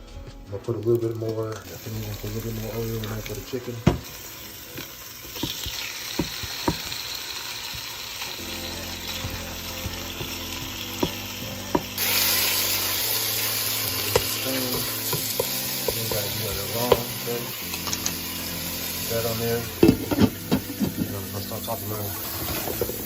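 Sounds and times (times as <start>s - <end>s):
chicken sizzling in hot oil: 1.0s - 23.0s.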